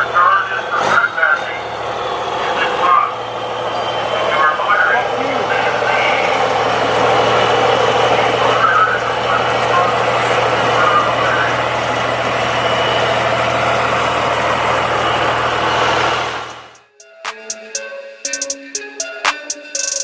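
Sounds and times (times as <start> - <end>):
car engines idling: 0.0 - 16.8.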